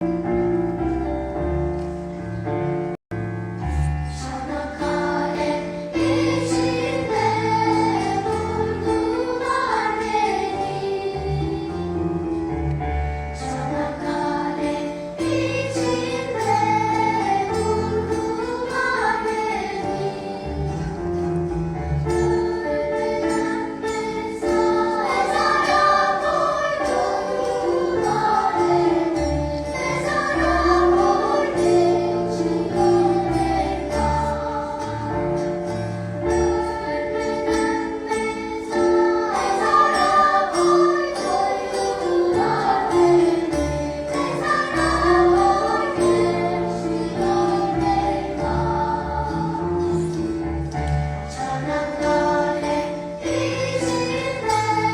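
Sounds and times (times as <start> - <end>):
instrumental accompaniment: 0.0 - 54.9
choir singing: 3.8 - 12.5, 13.3 - 50.6, 51.2 - 54.9.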